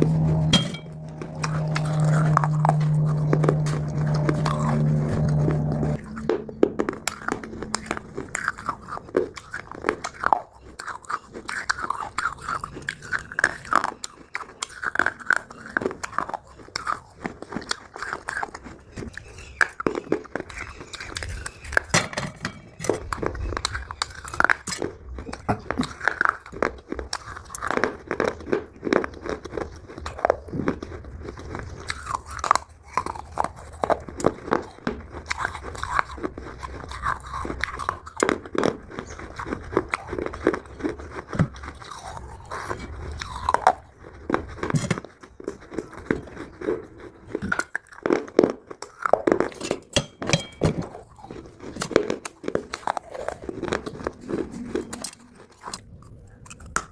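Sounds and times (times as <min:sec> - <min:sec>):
chewing dry clay crunching: 0:00.0 - 0:56.9.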